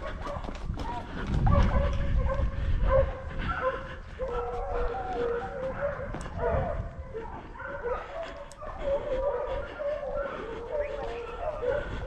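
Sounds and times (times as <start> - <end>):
hunting dogs baying: 0.0 - 12.0.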